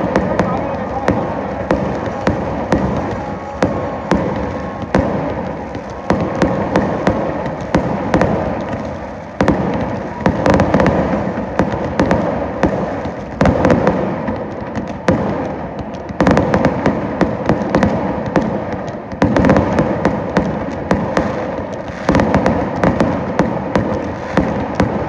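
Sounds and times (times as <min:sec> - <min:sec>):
firework bangs: 0:00.0 - 0:25.0
firework booms: 0:00.0 - 0:25.0.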